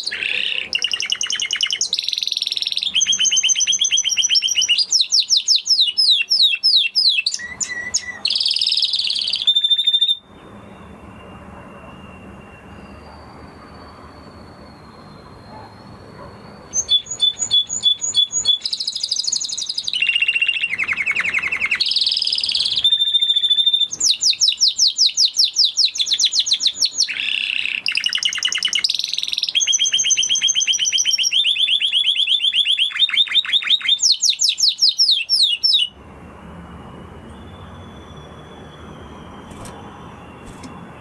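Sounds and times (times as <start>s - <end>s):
canary singing trills: 0.0s - 36.0s, 36.7s - 41.0s.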